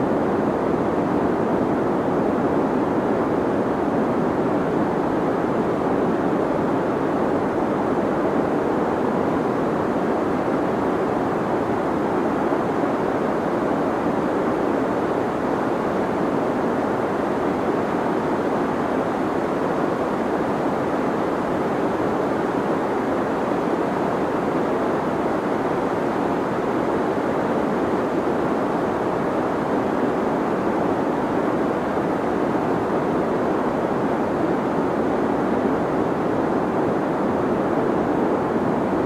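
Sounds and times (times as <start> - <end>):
deep white noise: 0.0 - 39.0.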